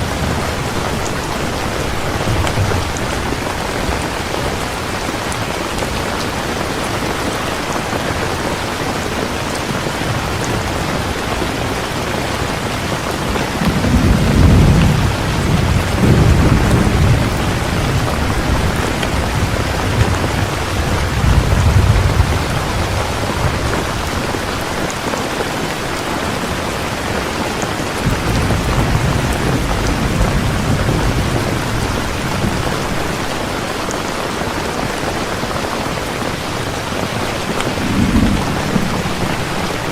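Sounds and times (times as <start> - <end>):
low thunder rumbling: 0.0 - 6.7, 8.3 - 25.8, 26.4 - 33.8, 35.9 - 39.9
steady rain falling: 0.0 - 39.9.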